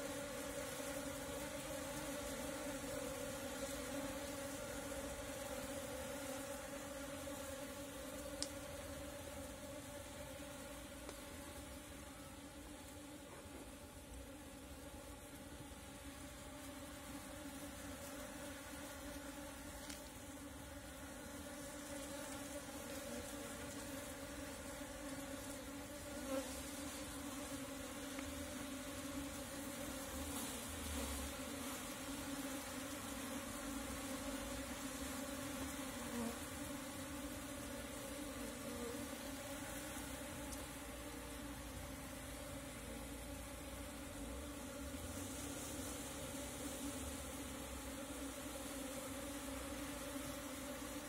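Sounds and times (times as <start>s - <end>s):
bee swarm humming: 0.0s - 51.0s.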